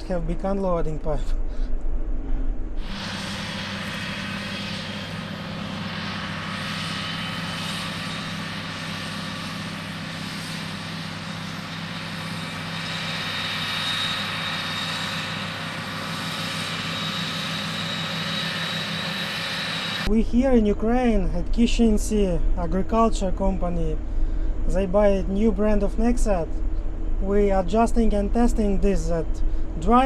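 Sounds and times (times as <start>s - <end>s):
faint high whine: 0.0s - 30.0s
machine drone: 0.0s - 30.0s.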